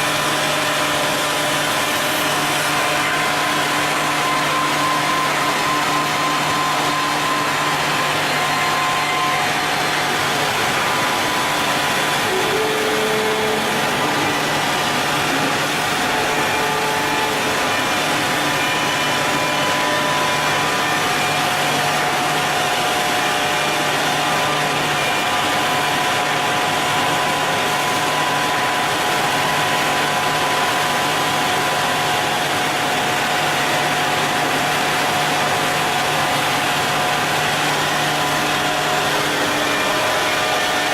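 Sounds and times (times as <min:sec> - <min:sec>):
woodworking machine running: 0:00.0 - 0:40.9.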